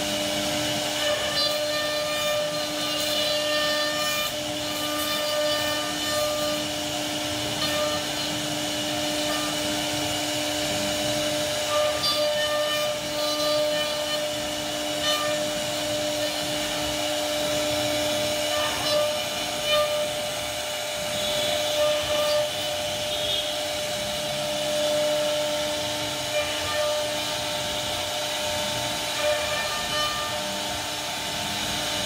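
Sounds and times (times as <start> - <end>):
router spindle whining: 0.0 - 32.0
wood cutting hiss: 0.0 - 32.0.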